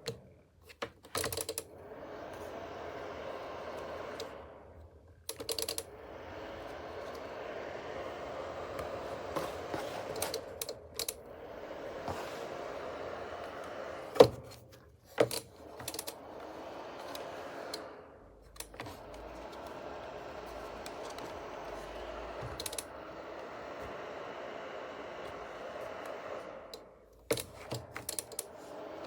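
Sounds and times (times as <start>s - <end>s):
fan heater whirring: 0.0s - 29.0s.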